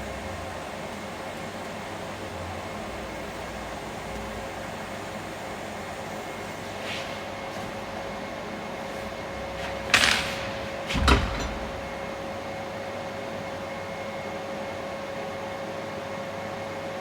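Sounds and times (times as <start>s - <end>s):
electrical machine hum: 0.0s - 17.0s.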